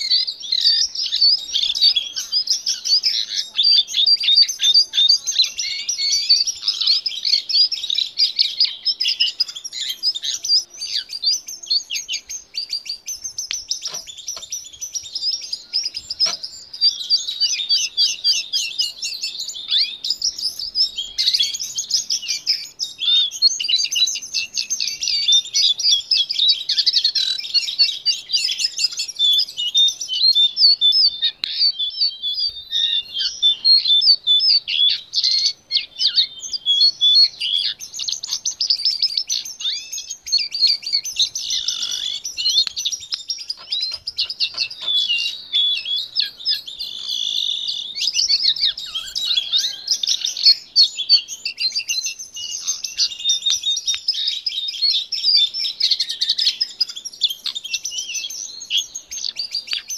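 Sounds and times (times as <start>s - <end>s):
bird singing rapid twittering song: 0.0s - 59.9s.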